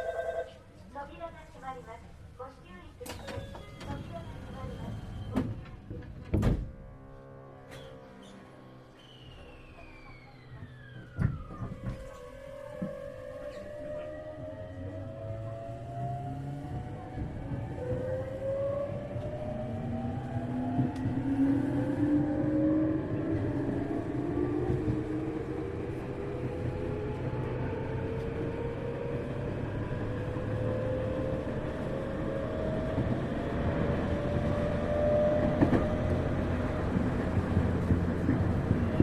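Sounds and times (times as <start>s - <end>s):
wheels rumbling on rails: 3.2s - 39.0s.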